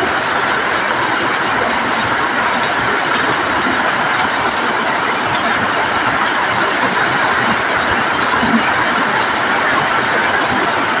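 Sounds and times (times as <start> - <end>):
heavy rain on roofs: 0.0 - 11.0.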